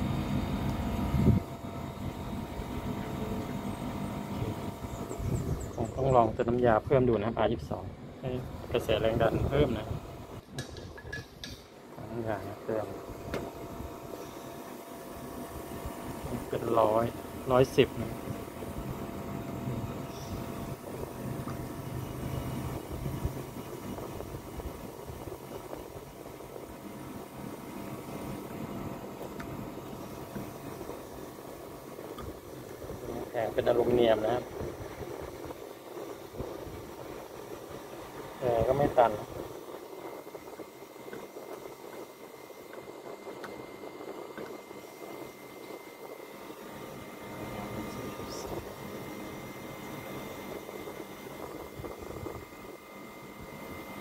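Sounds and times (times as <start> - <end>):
air conditioner unit humming: 0.0 - 54.0.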